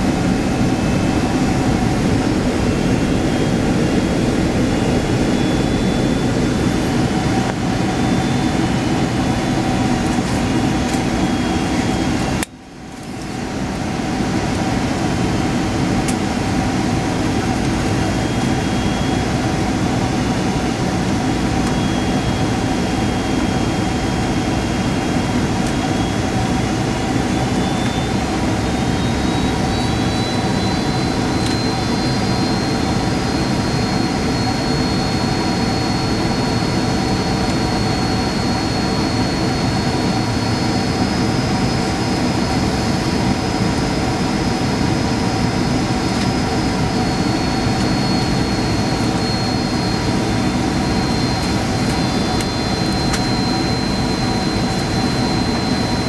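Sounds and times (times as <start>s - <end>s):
airflow rush in aircraft cabin: 0.0s - 56.0s
faint high whine: 0.0s - 56.0s
jet engines humming: 0.0s - 56.0s.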